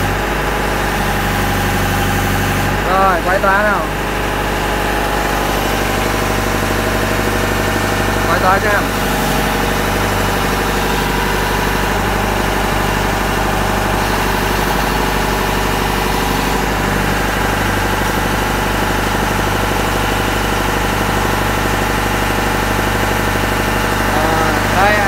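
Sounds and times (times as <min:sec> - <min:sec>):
boom lift engine idling: 0:00.0 - 0:25.0.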